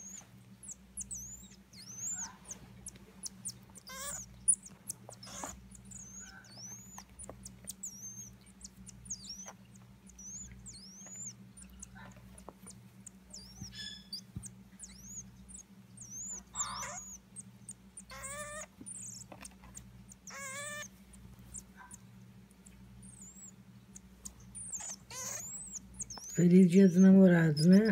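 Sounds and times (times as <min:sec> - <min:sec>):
marmoset high chirping calls: 0:00.0 - 0:19.4, 0:20.1 - 0:20.9, 0:23.0 - 0:27.9.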